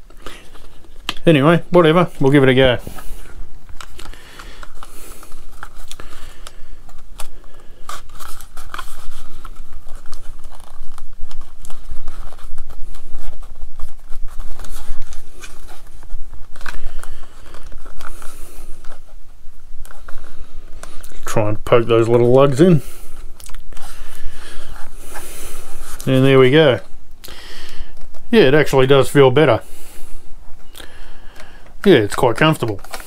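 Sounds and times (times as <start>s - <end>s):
rubber grip rubbing and creaking: 0.0s - 27.0s, 31.4s - 33.0s.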